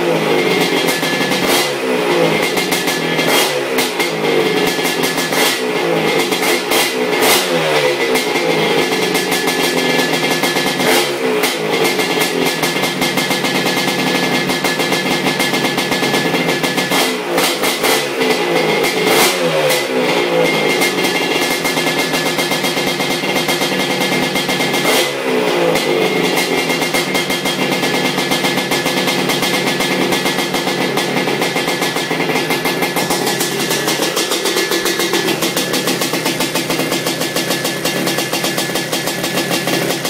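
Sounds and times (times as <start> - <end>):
two-stroke engine revving: 0.0 - 40.0.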